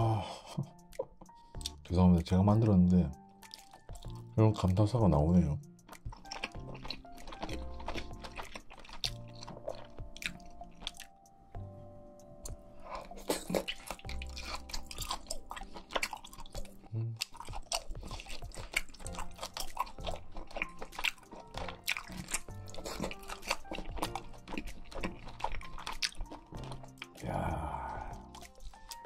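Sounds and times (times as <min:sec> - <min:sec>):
soft background music: 0:00.0 - 0:29.0
chewing and crunching: 0:00.3 - 0:11.2, 0:12.4 - 0:29.0.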